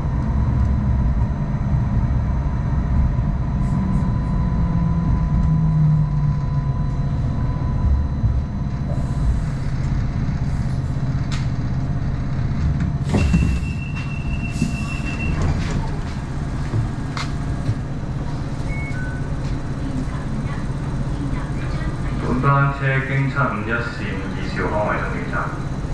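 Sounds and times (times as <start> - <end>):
light rail vehicle rumble: 0.0 - 25.9.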